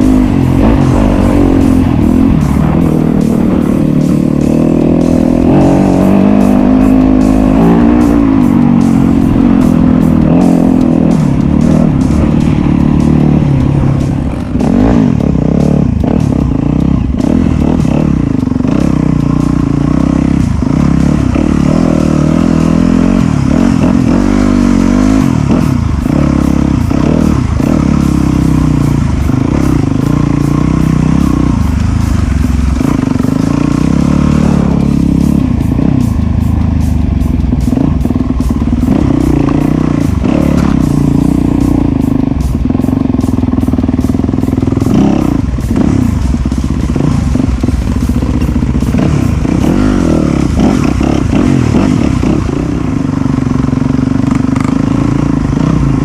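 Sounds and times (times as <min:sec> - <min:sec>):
background music: 0:00.0 - 0:56.0
dirt bike engine revving: 0:00.0 - 0:56.0.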